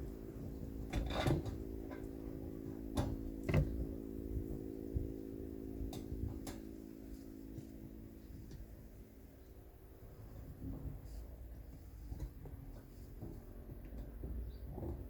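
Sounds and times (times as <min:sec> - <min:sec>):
low hum: 0:00.0 - 0:14.8.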